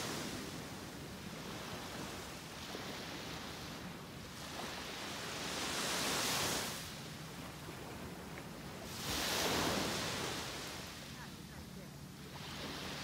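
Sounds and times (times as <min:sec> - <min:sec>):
small waves breaking on sand: 0:00.0 - 0:13.0.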